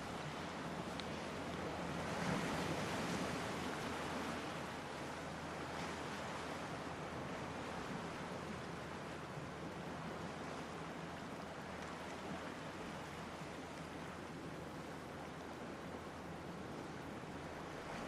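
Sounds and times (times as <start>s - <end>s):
ocean surf washing: 0.0s - 18.0s.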